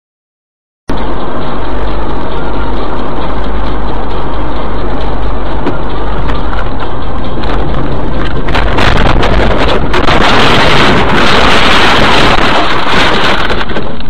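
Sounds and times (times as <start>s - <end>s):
distorted road and wind noise: 0.9s - 14.0s.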